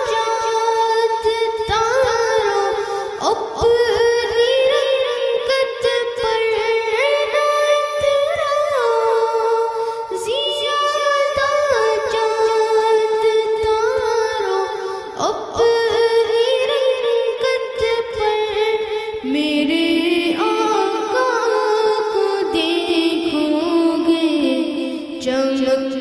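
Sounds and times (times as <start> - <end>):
boy singing unaccompanied: 0.0 - 26.0.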